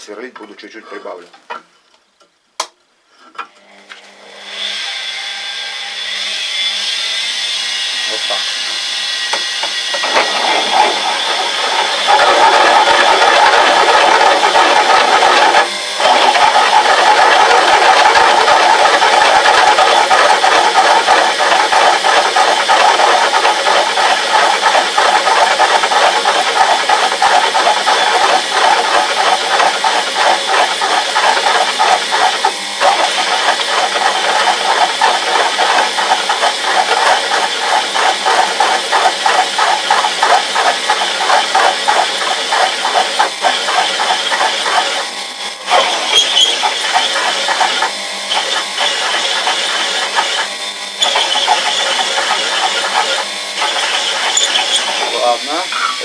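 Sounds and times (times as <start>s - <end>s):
drill press motor running: 3.5s - 56.0s
drill bit grinding through steel: 4.4s - 56.0s.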